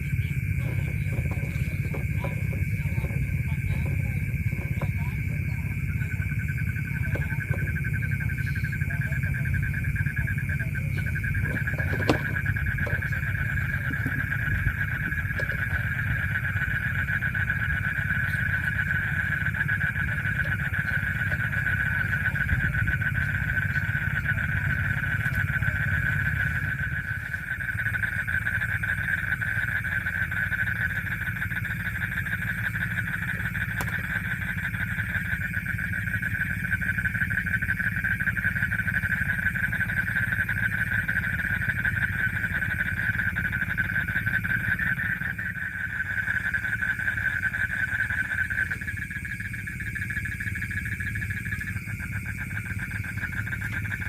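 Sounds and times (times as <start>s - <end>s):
animals trilling at night: 0.0s - 54.0s
low steady rumble: 0.0s - 54.0s.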